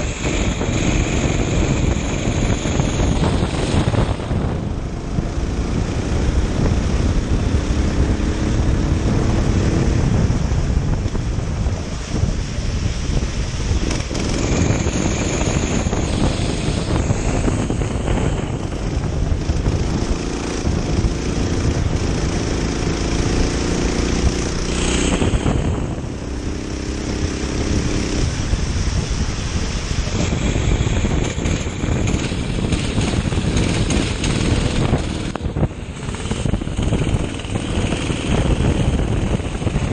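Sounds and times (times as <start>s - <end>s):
go-kart engine revving: 0.0s - 10.8s, 12.5s - 39.9s
steady rush of noise: 0.0s - 39.9s.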